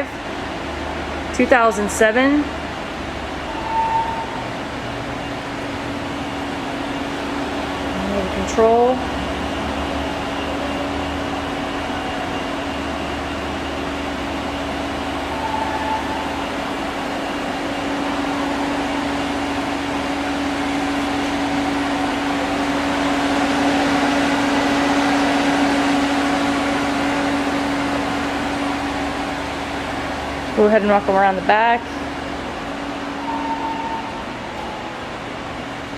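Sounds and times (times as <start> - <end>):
machinery hum: 0.0 - 35.9.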